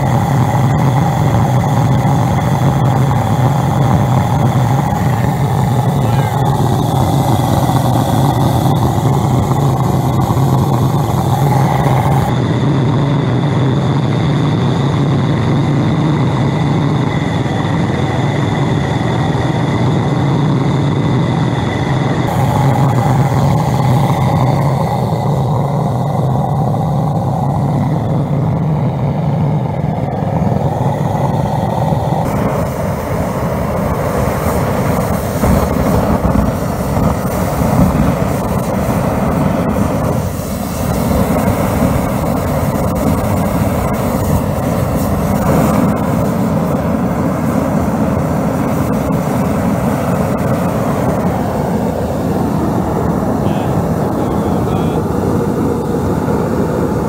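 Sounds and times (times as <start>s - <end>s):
diesel burner rushing roar: 0.0s - 57.0s
low hum: 0.0s - 57.0s.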